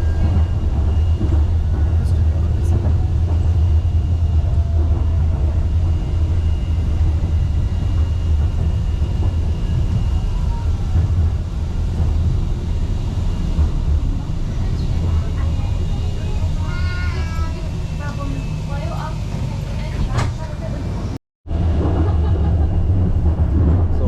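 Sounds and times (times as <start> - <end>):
railway car low rumble: 0.0 - 24.0.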